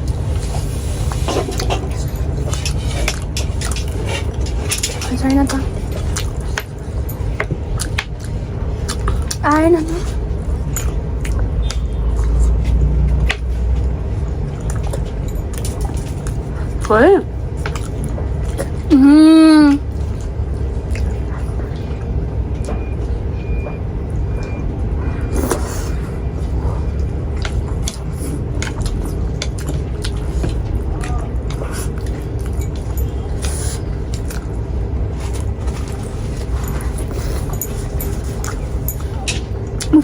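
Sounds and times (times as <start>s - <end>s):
low background rumble: 0.0s - 40.0s.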